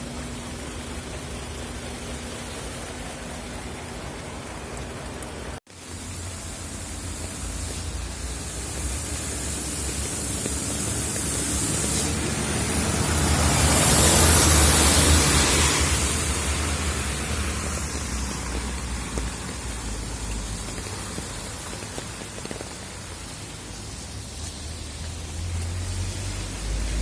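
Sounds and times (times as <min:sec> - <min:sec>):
heavy rain hissing: 0:00.0 - 0:27.0.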